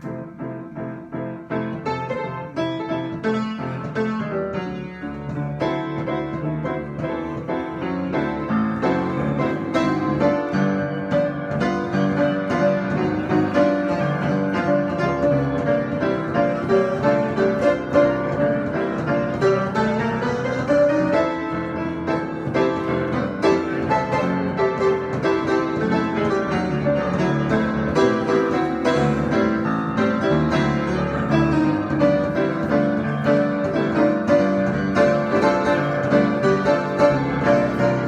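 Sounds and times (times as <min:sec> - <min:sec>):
improvised piano solo: 0:00.0 - 0:38.0.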